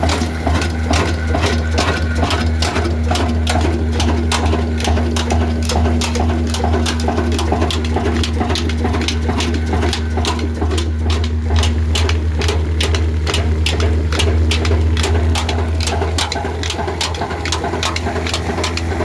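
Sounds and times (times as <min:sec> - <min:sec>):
diesel engine running slowly: 0:00.0 - 0:19.0.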